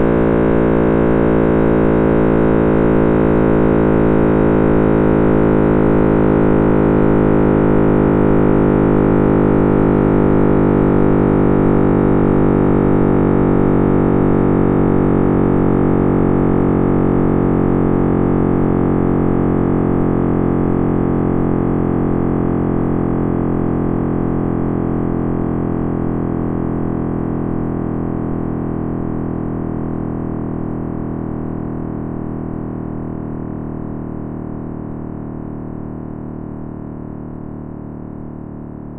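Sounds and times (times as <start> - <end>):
synthesized deep drone: 0.0 - 37.3.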